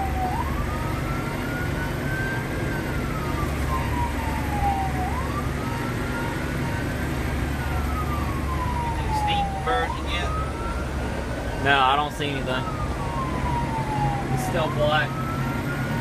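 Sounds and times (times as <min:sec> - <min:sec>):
engine and road rumble: 0:00.0 - 0:16.0
fire engine siren wailing: 0:00.0 - 0:16.0.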